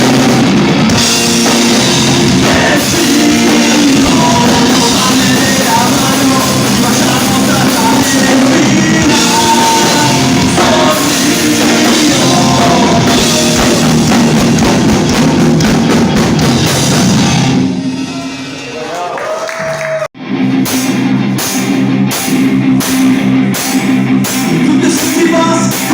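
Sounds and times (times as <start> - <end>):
rock band playing: 0.0 - 19.1, 19.7 - 25.9
pounding drum kit: 0.0 - 25.9.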